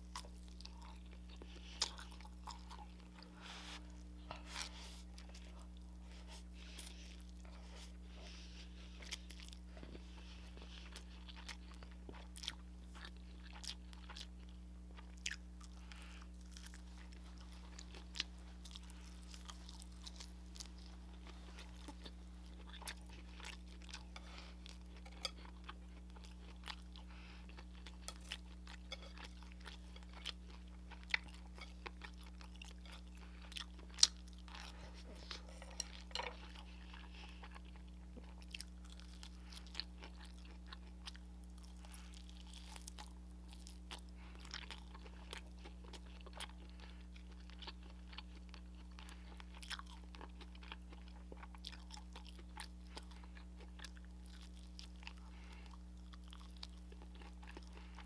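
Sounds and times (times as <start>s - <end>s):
chewing with crunchy bites: 0.0s - 58.0s
low electrical hum: 0.0s - 58.0s.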